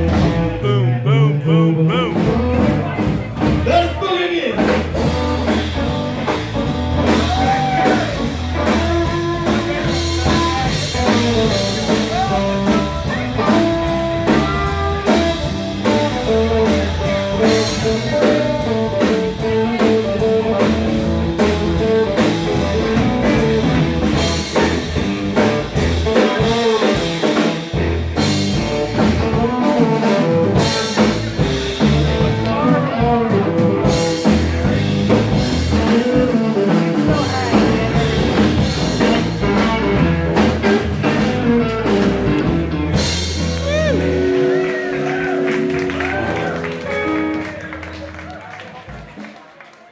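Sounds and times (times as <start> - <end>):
electric guitar: 0.0 - 3.8, 4.5 - 49.2
drum beat: 1.9 - 49.9.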